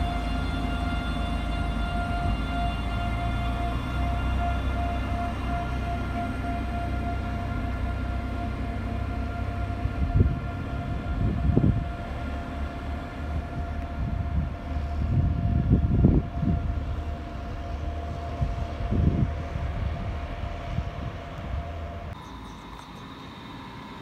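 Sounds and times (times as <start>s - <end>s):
electric drive whine: 0.0s - 24.0s
train rumble: 0.0s - 24.0s.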